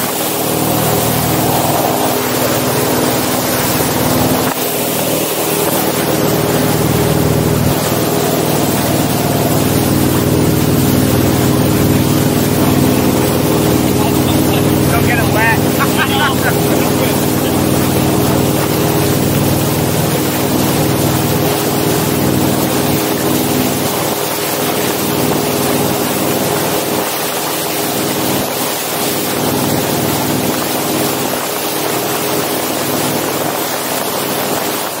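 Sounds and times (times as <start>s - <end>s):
motorboat engine running: 0.0s - 35.0s
wake spray rushing: 0.0s - 35.0s.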